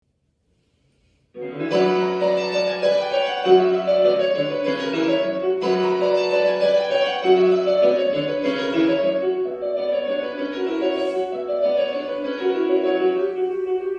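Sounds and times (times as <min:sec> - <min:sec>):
piano chords: 0:01.4 - 0:13.9.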